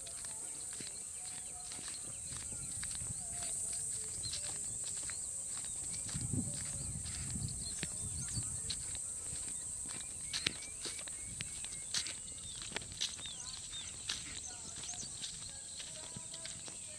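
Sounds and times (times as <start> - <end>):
bird chirps: 0.0 - 16.9
footsteps through grass: 0.0 - 16.9
high-pitched insect drone: 0.0 - 16.9.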